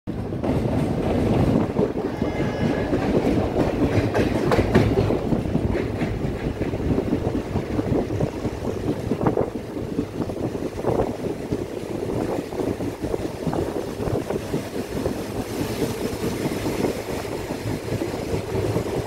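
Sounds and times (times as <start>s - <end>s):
train wheels rumbling on rails: 0.1s - 19.0s
wheels clacking over rail joints: 0.1s - 19.0s.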